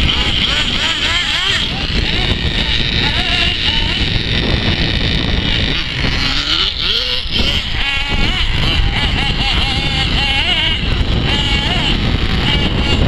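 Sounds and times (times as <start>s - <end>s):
radio-controlled car motors: 0.0s - 13.0s
wind buffeting microphone: 0.0s - 13.0s.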